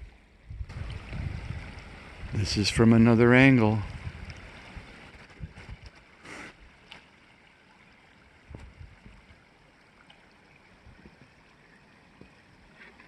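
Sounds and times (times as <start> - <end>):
creek running: 0.0 - 13.0.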